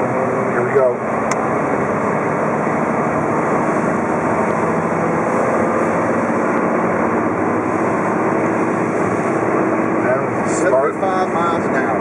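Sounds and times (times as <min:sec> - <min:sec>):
car engine drone: 0:00.0 - 0:12.0
tyre and road noise: 0:00.0 - 0:12.0.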